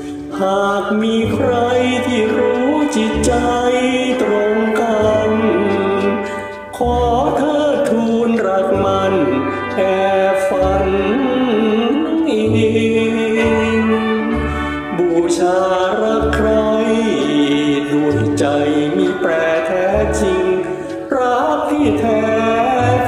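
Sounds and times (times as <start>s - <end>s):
melodic lead over bass line: 0.0s - 23.0s.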